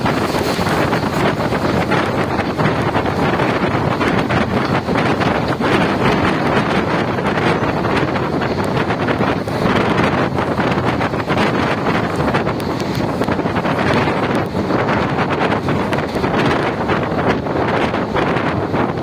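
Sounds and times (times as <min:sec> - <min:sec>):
train rumbling and rattling: 0:00.0 - 0:19.0
wind buffeting microphone: 0:00.0 - 0:19.0.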